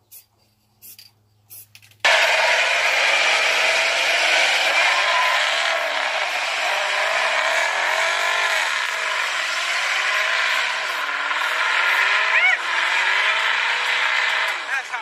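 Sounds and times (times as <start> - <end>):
small engine revving: 2.0 - 15.0.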